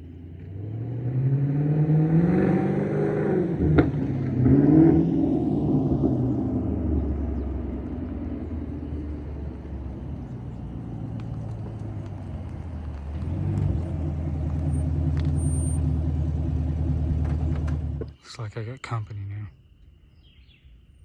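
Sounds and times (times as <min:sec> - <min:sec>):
car engine droning: 0:00.0 - 0:18.2.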